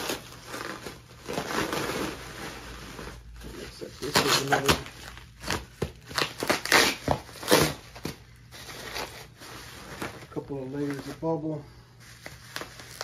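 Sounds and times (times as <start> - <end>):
bubble wrap and plastic crinkling: 0.0 - 13.0.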